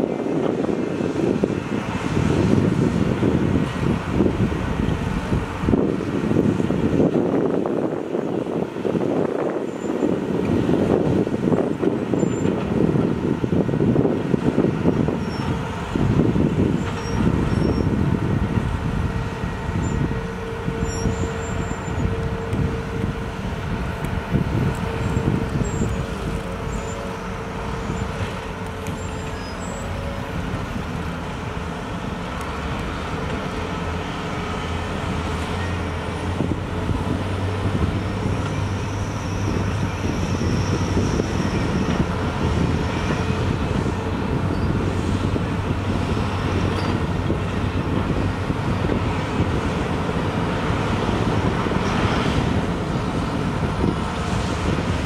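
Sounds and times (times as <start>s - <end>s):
diesel engines of heavy machinery: 0.0s - 55.0s.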